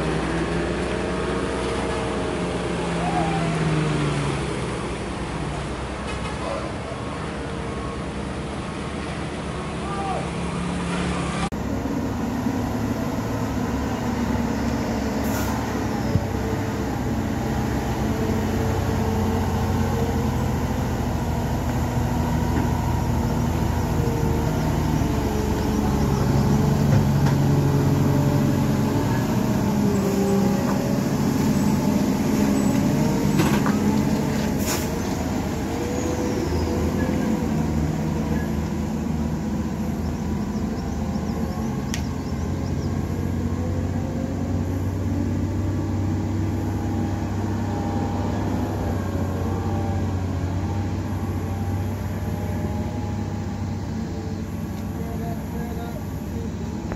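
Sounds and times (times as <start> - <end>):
truck diesel engine passing: 0.0 - 56.9.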